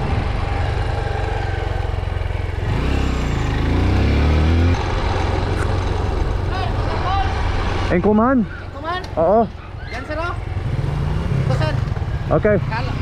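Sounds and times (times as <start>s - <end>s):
vehicle engine speeding up: 0.0s - 8.3s, 10.3s - 13.0s.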